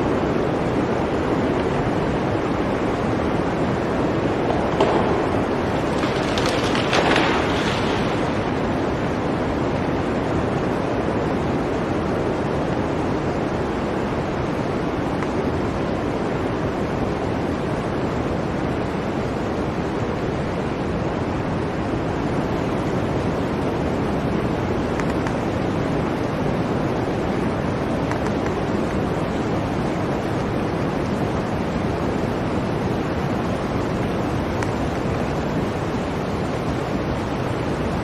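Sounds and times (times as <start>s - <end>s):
blizzard wind rushing: 0.0s - 38.0s.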